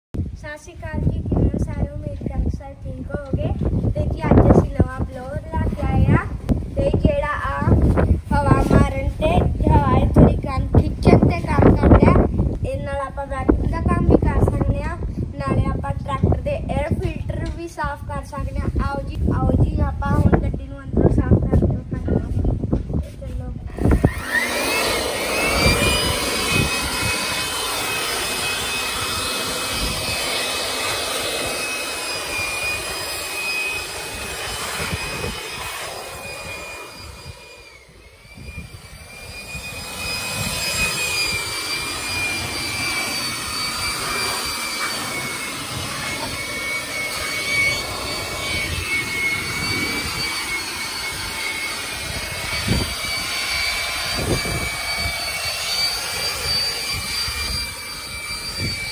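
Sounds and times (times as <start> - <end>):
electric air blower whining: 3.2 - 12.7, 13.4 - 58.9.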